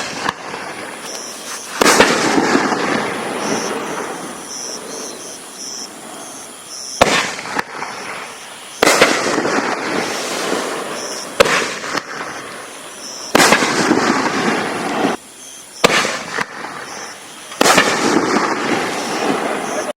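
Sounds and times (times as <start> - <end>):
fireworks bangs: 0.0 - 19.9
fireworks crackling: 0.0 - 19.9.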